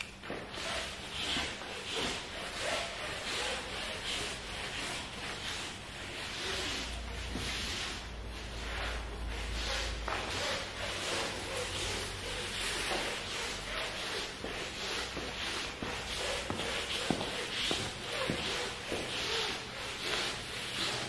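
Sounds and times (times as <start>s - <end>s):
wet mop swishing on floor: 0.0s - 21.0s.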